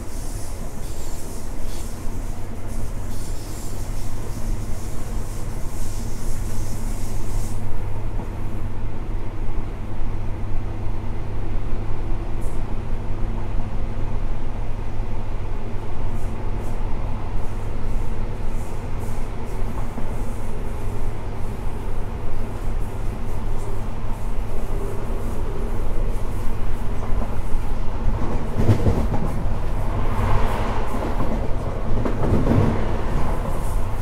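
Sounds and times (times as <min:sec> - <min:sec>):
train running hum: 0:00.0 - 0:34.0.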